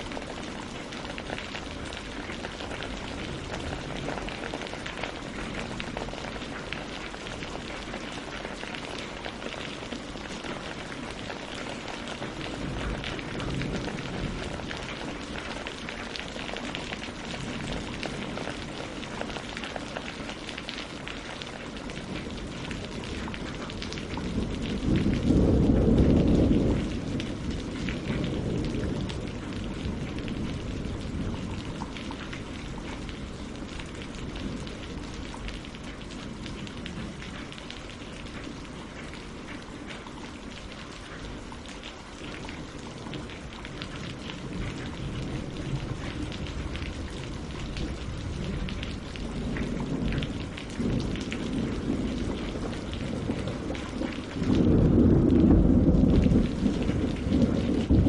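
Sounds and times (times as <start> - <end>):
rain on lake and leaves: 0.0 - 58.0.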